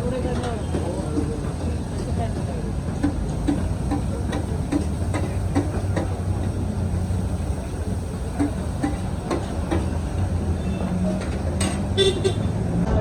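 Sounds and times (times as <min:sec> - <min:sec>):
low engine-like rumble: 0:00.0 - 0:13.0.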